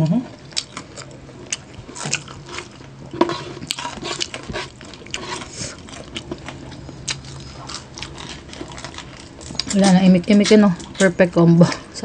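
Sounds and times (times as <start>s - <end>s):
crunching fried pork skin: 0.5s - 11.2s.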